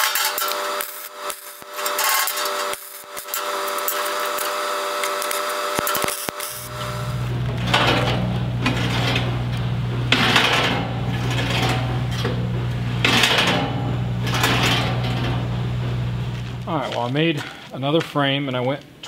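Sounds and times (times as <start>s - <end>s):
saw rattling rolling scrapes: 0.0s - 16.8s
steady low hum: 0.1s - 19.0s.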